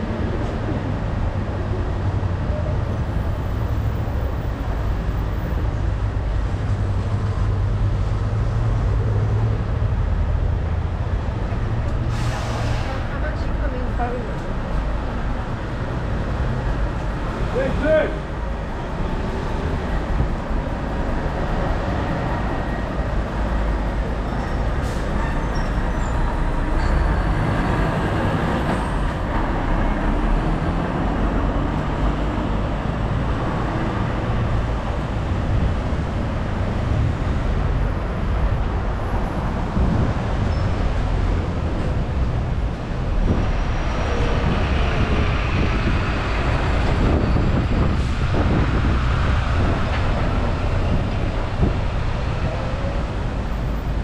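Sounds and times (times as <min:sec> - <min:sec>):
low rumble of vehicles: 0:00.0 - 0:54.0.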